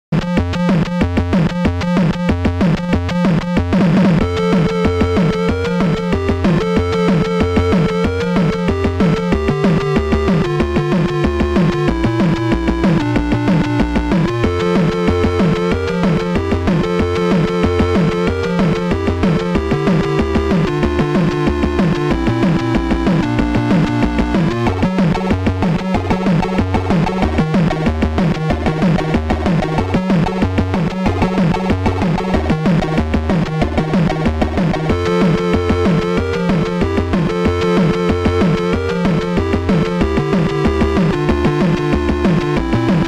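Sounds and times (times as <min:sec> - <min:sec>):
electronic synthesizer music: 0:00.2 - 0:43.0.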